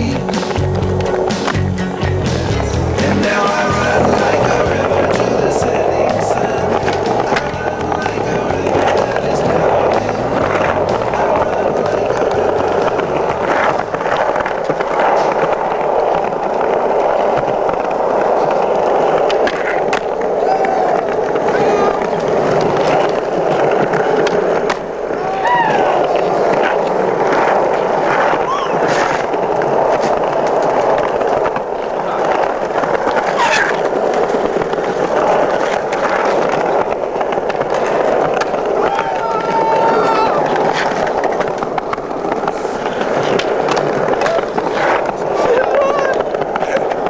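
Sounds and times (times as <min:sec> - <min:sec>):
skateboard wheels rolling on pavement: 0:00.0 - 0:47.0.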